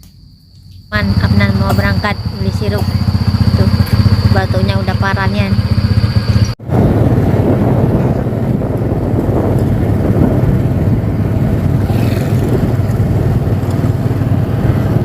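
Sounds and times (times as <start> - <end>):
road noise: 0.0 - 15.0
vehicle engine rumble: 0.0 - 15.0.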